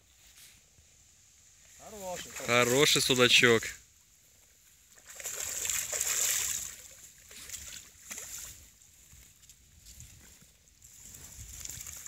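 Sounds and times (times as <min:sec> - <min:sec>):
water splashing and trickling: 0:01.5 - 0:12.0.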